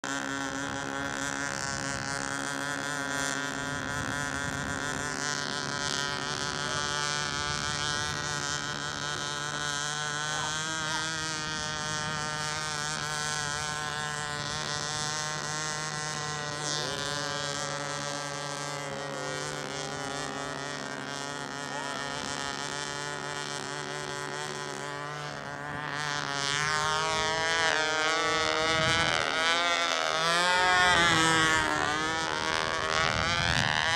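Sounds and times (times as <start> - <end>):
model airplane engines running: 0.0 - 33.9.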